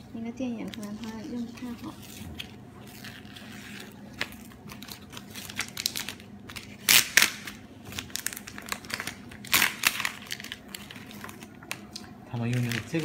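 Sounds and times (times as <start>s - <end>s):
sticker film crinkling: 0.5s - 13.0s.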